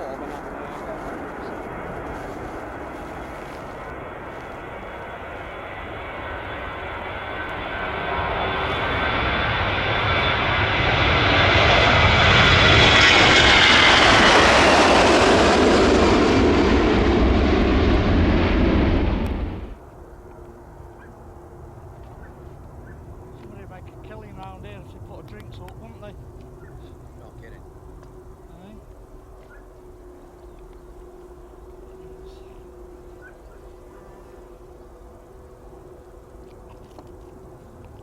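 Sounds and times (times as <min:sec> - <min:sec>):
jet airliner engine noise: 0:00.0 - 0:38.0.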